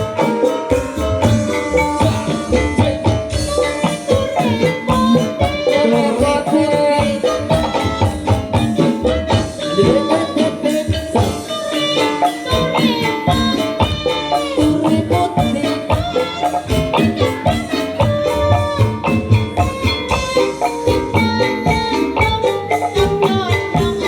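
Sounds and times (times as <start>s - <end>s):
sliding melodic lines: 0.0s - 24.0s
tuned percussion and drums: 0.0s - 24.0s.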